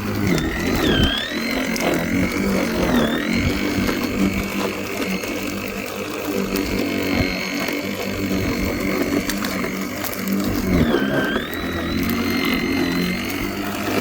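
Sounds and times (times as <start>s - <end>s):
fast mechanical rattle: 0.0s - 14.0s
lawnmower motor whining: 0.0s - 14.0s.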